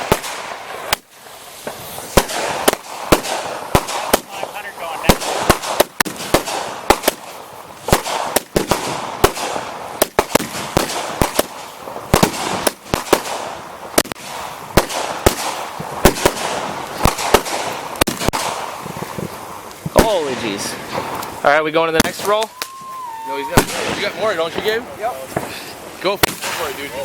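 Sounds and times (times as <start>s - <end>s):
fireworks bangs: 0.0s - 27.0s
fireworks crackling and hiss: 0.0s - 27.0s.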